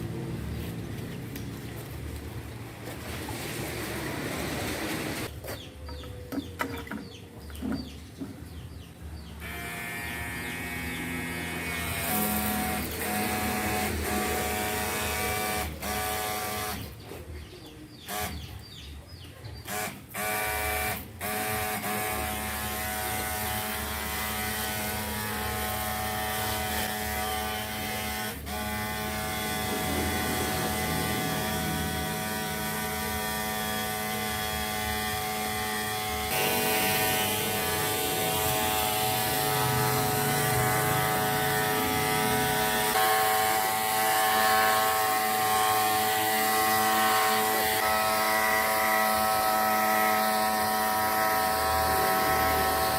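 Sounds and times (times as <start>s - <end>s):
water pump buzzing: 0.0s - 5.3s, 9.2s - 17.0s, 18.1s - 18.5s, 19.6s - 52.9s.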